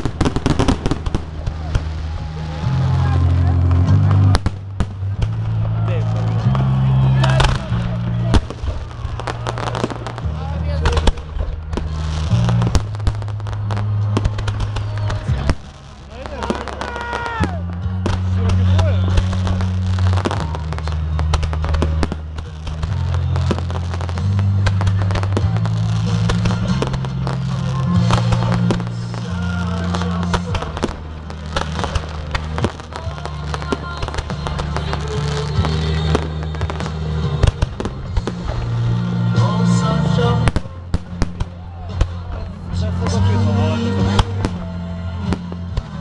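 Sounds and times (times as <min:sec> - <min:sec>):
fireworks bursting and crackling: 0:00.0 - 0:46.0
music with deep bass: 0:00.0 - 0:46.0.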